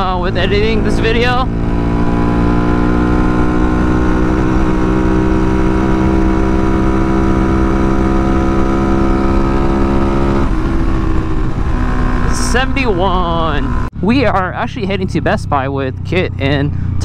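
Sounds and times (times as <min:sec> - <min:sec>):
low wind rumble: 0:00.0 - 0:17.0
motorcycle engine running: 0:00.0 - 0:17.0.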